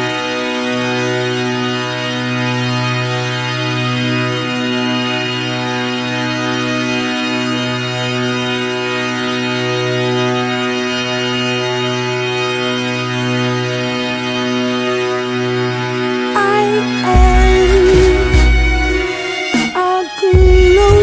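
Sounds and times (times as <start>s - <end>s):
sustained instrumental chord: 0.0s - 21.0s.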